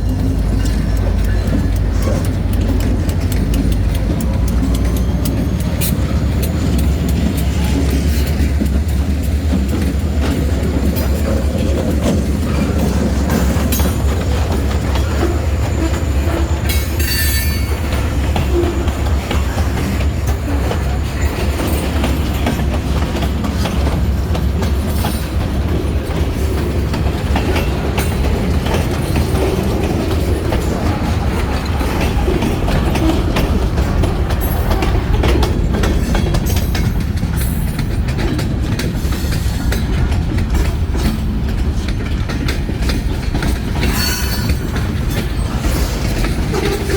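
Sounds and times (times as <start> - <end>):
freight train rumbling past: 0.0 - 46.9
train wheel squeal: 0.0 - 46.9
wheels clicking over rail joints: 0.0 - 46.9.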